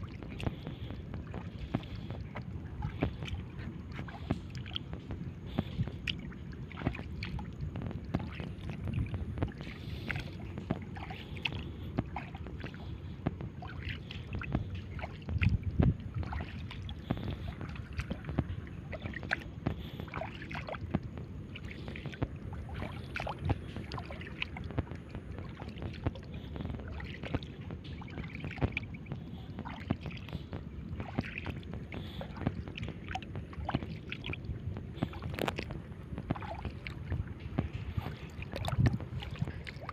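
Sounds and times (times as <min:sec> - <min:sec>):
seawater sloshing and splashing: 0:00.0 - 0:39.9.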